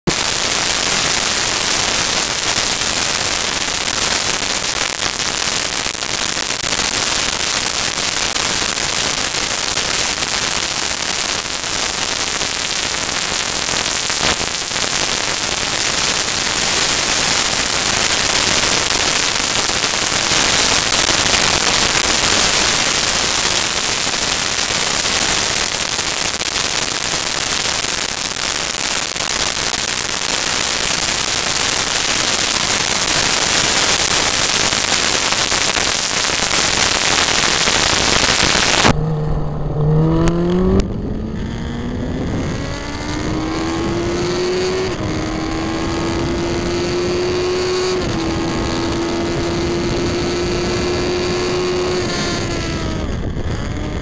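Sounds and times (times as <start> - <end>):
loud crackling static: 0.0 - 54.0.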